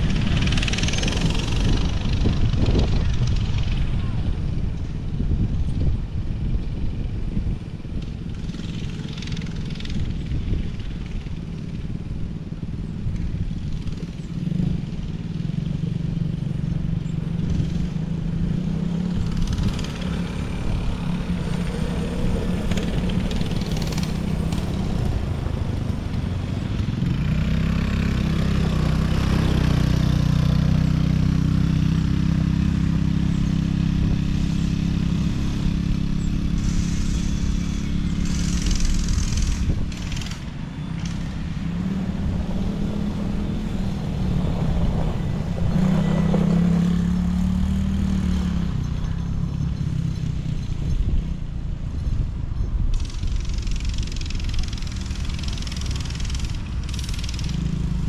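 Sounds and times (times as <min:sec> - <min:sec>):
atv engines running: 0:00.0 - 0:58.0.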